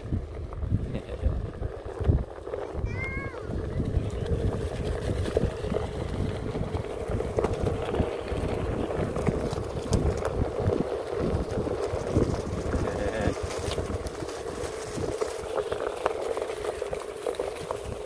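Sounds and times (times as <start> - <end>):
electric motor hum: 0.0 - 18.0
tyre rumbling over bumps: 0.0 - 18.0
wind buffeting microphone: 0.0 - 18.0.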